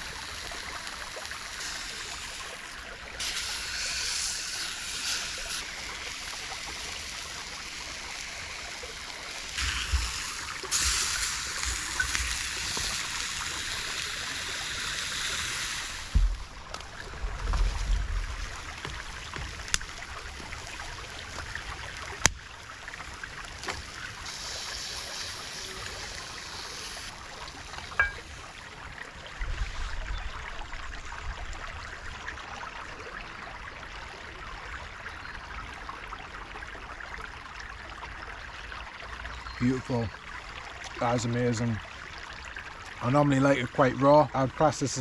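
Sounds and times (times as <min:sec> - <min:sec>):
stream running: 0:00.0 - 0:45.0.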